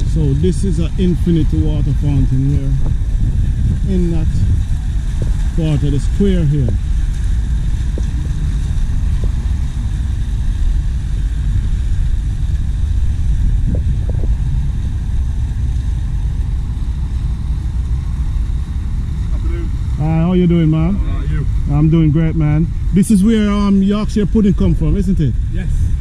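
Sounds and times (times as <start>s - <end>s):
water fountain rushing: 0.0s - 26.0s.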